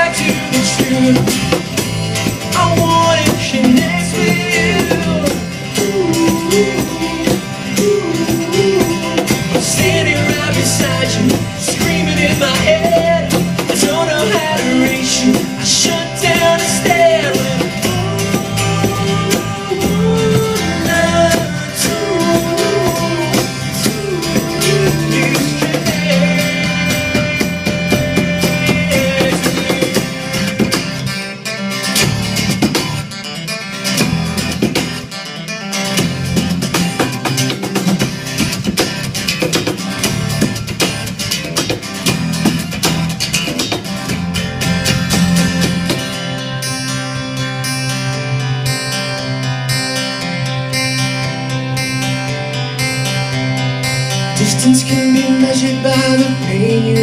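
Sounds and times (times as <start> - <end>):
acoustic guitar strumming: 0.0 - 57.0
bass guitar: 0.0 - 57.0.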